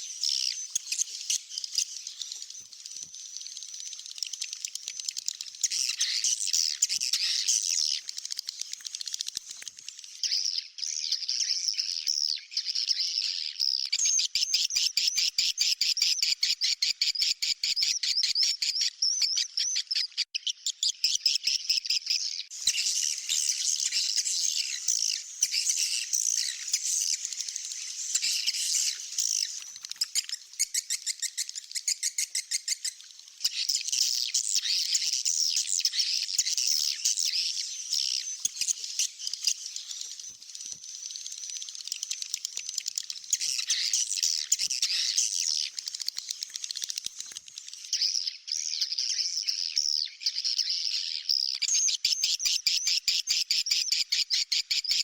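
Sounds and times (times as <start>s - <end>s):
swiftlets chirping and twittering: 0.0s - 55.0s.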